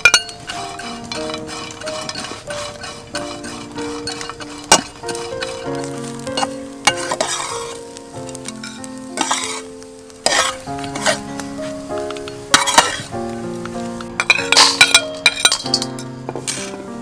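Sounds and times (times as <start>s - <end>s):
spatula scraping a wok: 0.0s - 13.2s, 13.8s - 17.0s
fish sizzling in a wok: 0.0s - 17.0s
slow background music: 0.0s - 17.0s.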